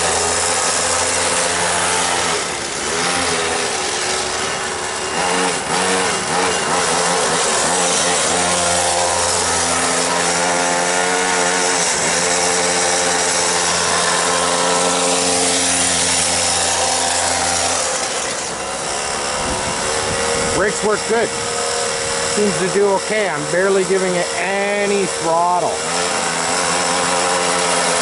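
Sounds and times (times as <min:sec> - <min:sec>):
small rc car engine revving: 0:00.0 - 0:28.0.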